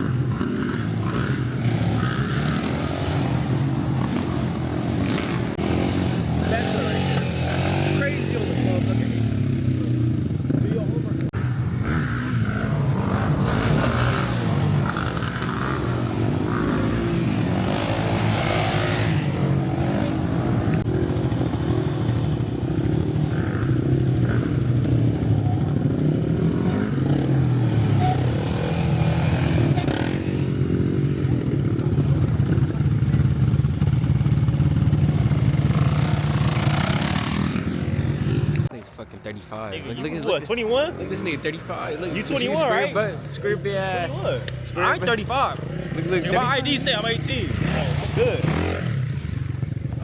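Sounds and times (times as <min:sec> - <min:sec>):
atv engine revving: 0:00.0 - 0:38.7, 0:39.9 - 0:50.0.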